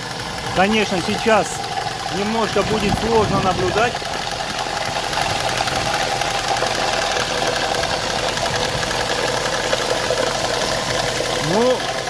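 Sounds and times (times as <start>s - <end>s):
car engine idling: 0.0s - 12.0s
rapid valve ticking: 0.0s - 12.0s.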